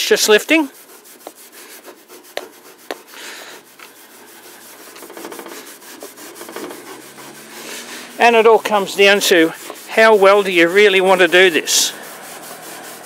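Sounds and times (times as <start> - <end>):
steel wool rubbing wood: 0.0 - 13.0.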